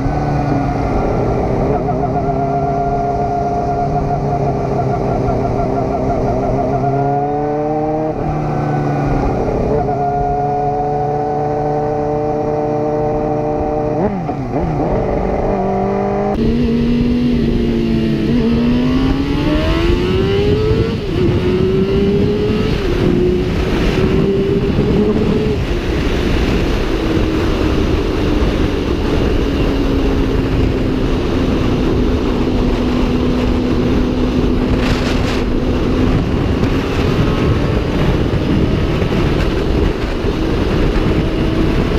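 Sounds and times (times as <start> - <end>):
motorcycle engine accelerating: 0.0 - 41.9
wind rushing: 0.0 - 41.9.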